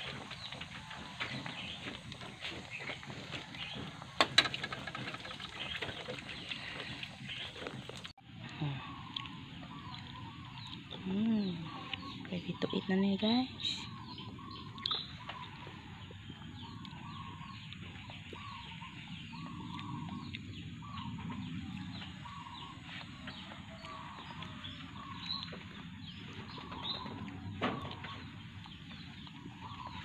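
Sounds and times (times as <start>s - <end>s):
birds chirping and calling: 0.0s - 30.0s.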